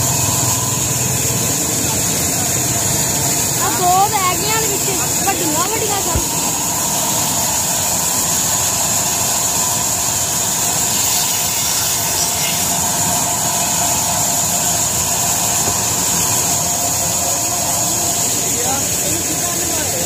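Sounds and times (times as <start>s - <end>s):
band saw cutting a log: 0.0s - 20.0s.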